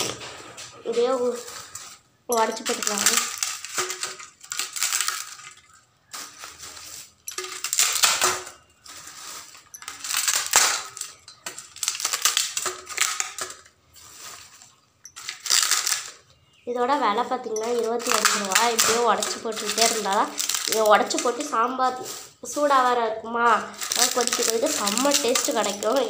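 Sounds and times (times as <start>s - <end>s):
crisp shells crunching: 0.9s - 16.6s, 17.4s - 26.0s.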